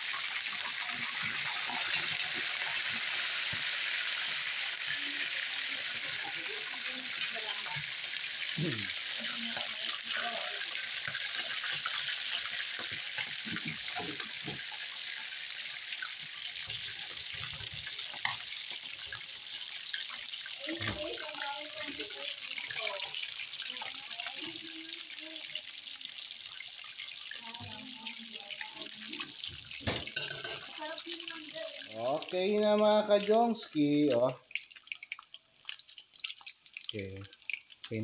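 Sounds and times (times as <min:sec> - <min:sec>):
chicken deep-frying in oil: 0:00.0 - 0:38.0.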